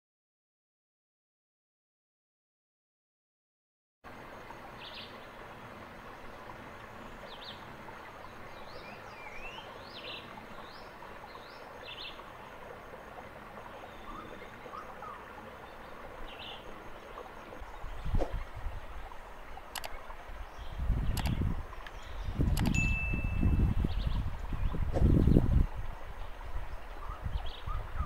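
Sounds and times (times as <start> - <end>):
forest ambience hiss: 4.1 - 28.0.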